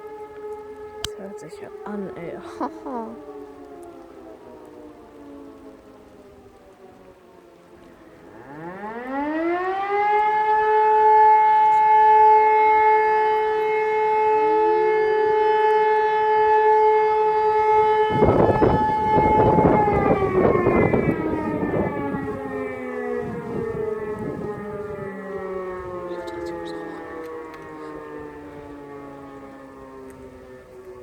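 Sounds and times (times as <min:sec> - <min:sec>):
two-tone alarm siren: 0:00.0 - 0:31.0.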